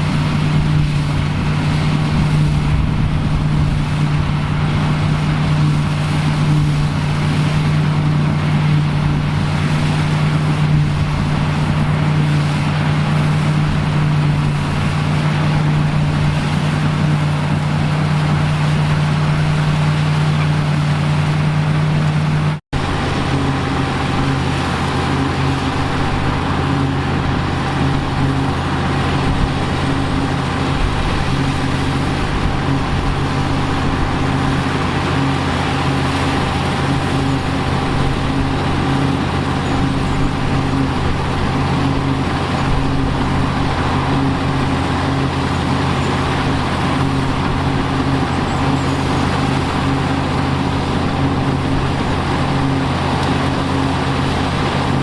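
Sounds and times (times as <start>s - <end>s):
machinery engine running steadily: 0.0s - 55.0s.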